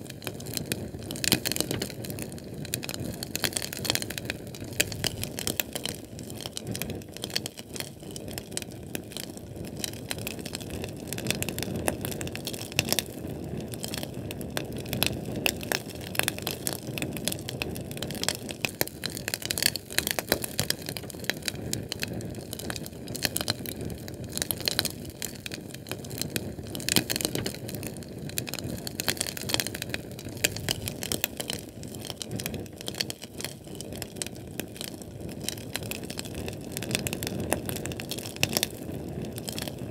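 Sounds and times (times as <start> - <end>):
fire crackling: 0.0 - 39.9
rushing of flame: 0.0 - 39.9.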